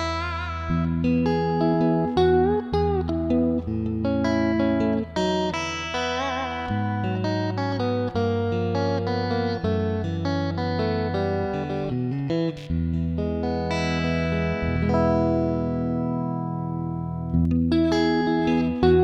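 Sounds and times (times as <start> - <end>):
electric guitar through amplifier: 0.0 - 19.0.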